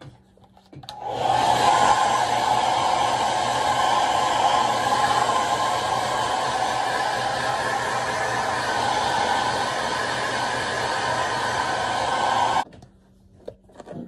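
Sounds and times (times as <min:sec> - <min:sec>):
hair dryer running: 0:00.9 - 0:12.6.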